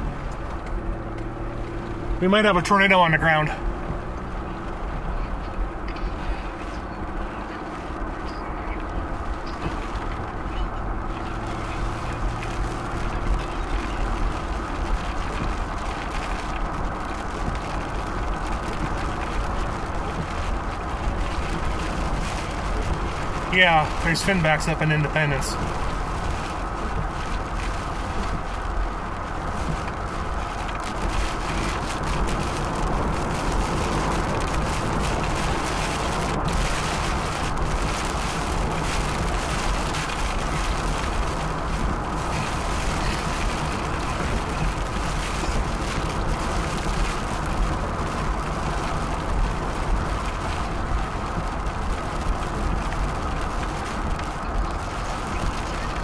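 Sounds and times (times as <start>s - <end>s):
road and wind noise in car: 0.0s - 56.0s
wind buffeting car: 0.0s - 56.0s.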